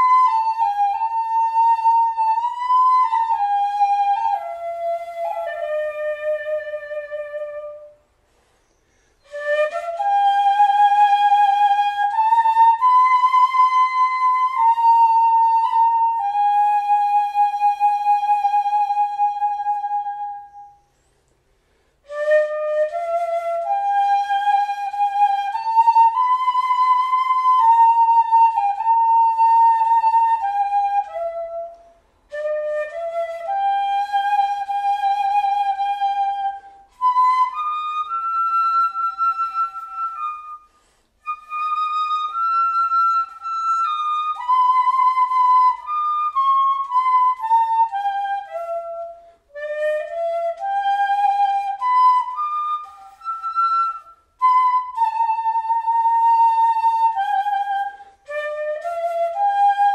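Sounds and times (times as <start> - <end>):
wooden flute playing slow melody: 0.0 - 59.9.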